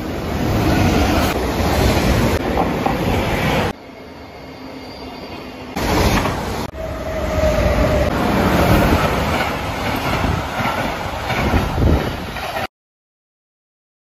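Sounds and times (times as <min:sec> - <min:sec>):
freight train passing: 0:00.0 - 0:12.7.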